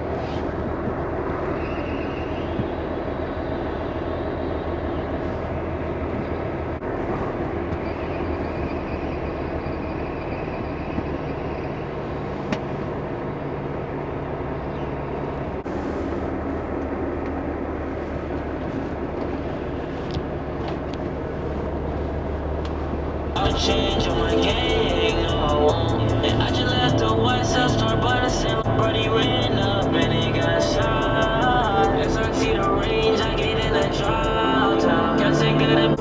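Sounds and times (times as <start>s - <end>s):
truck diesel engine drone: 0.0s - 36.0s.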